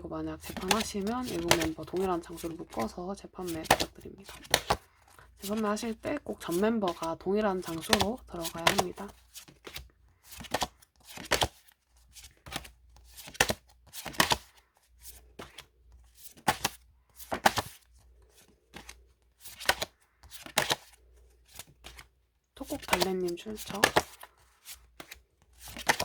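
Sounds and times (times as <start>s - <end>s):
postcards being flipped: 0.4s - 26.0s.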